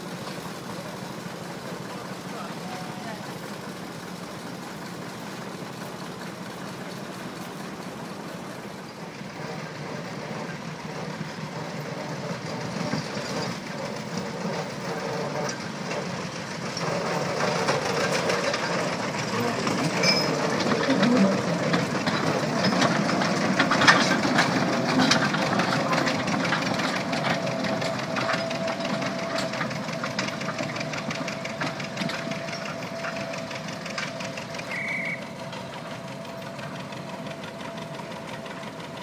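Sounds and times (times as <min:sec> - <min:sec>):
locomotive engine running: 0:00.0 - 0:39.0.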